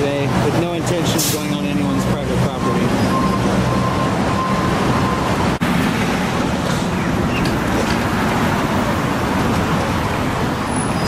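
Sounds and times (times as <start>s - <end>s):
cars passing on busy street: 0.0s - 11.0s.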